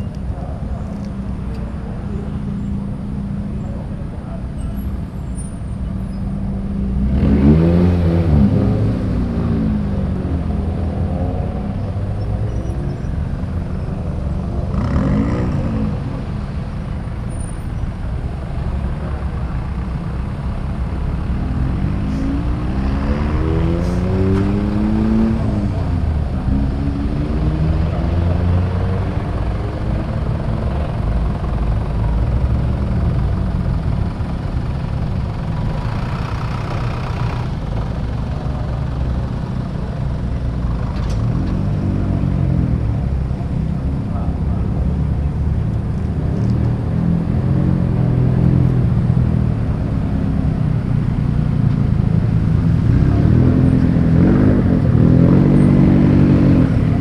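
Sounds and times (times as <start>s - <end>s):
car engines revving and passing: 0.0s - 57.0s.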